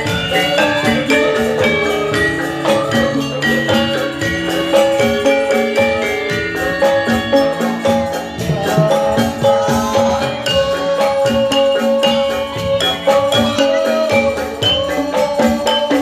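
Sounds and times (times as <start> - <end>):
drums: 0.0 - 16.0
jingling percussion: 0.0 - 16.0
struck metal keyed instruments: 0.0 - 16.0.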